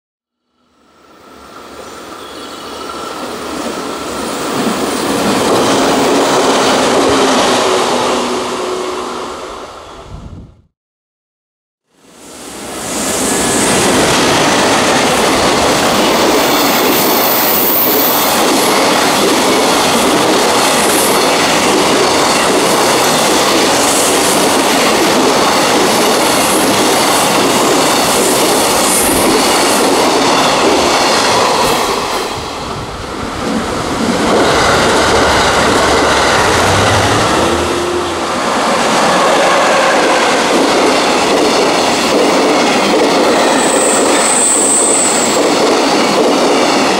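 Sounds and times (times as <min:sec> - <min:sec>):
train wheels rumbling and clacking: 0:02.8 - 0:07.9, 0:13.2 - 0:46.9.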